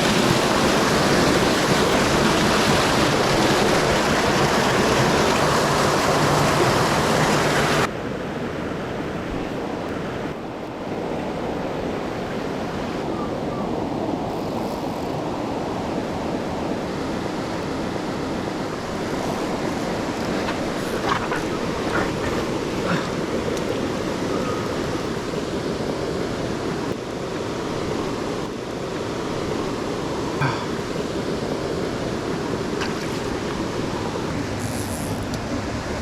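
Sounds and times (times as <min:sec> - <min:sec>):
rushing stream water: 0:00.0 - 0:13.1, 0:13.7 - 0:36.0.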